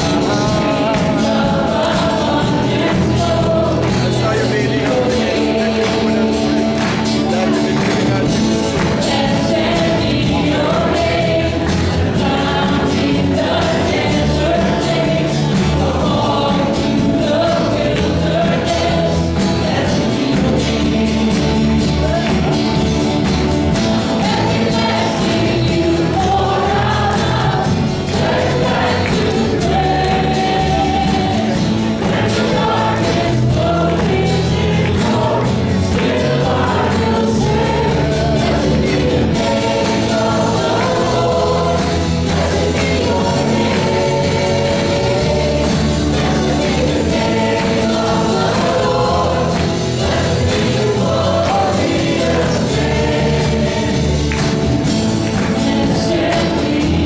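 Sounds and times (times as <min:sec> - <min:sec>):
choir singing gospel song: 0:00.0 - 0:57.0
instrumental accompaniment: 0:00.0 - 0:57.0.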